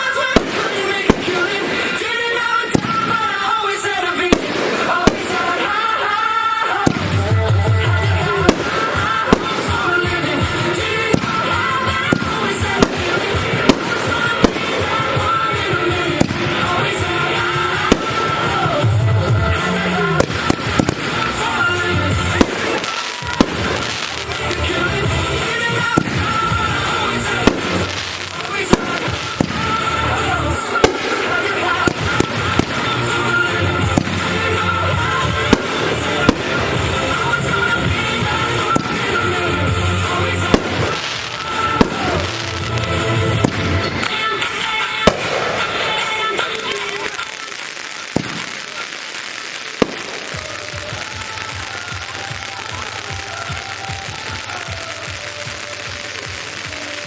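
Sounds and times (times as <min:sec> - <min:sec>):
fireworks bangs: 0:00.0 - 0:57.0
fireworks crackling: 0:00.0 - 0:57.0
music playing: 0:00.0 - 0:57.0.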